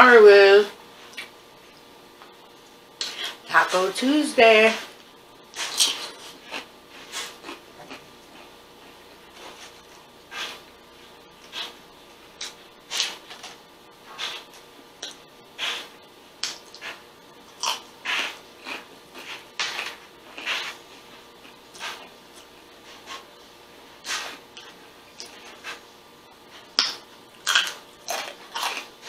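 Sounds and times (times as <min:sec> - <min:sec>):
chewing and crunching taco: 0:05.5 - 0:29.0.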